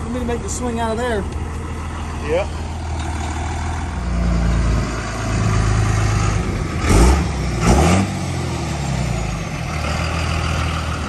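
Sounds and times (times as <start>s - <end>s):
tow truck engine revving: 0.0s - 11.0s.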